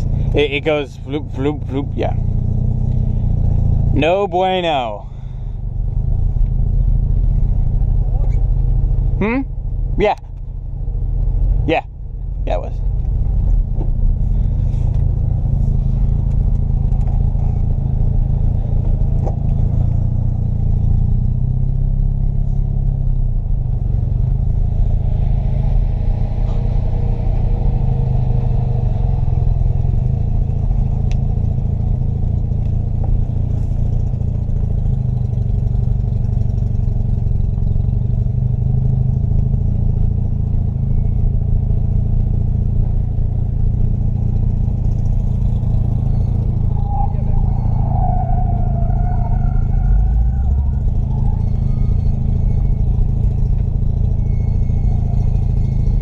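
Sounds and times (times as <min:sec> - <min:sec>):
rotary car engine running: 0:00.0 - 0:56.0.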